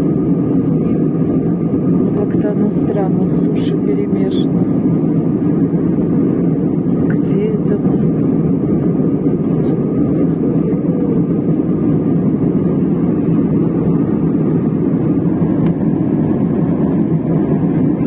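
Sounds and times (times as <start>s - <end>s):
airliner engines and rushing air: 0.0s - 18.0s.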